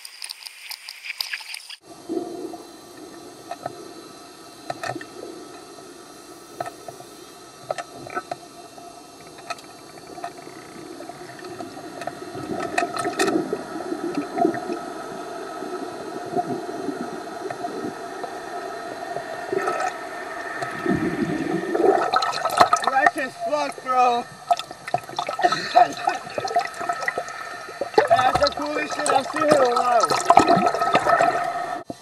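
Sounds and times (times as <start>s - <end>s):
outboard motors humming underwater: 0.0s - 32.0s
water sloshing and bubbling: 0.0s - 32.0s.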